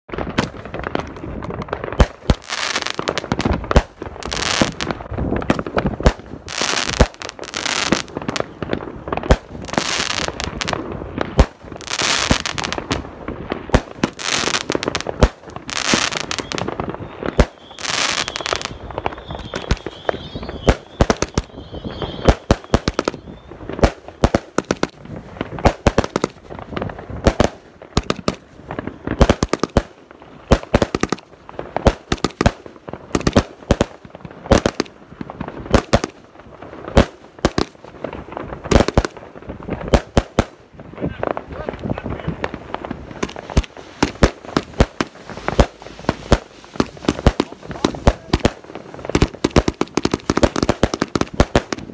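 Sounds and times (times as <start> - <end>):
firework crackle: 0.1 - 51.9
fireworks banging: 0.1 - 51.9.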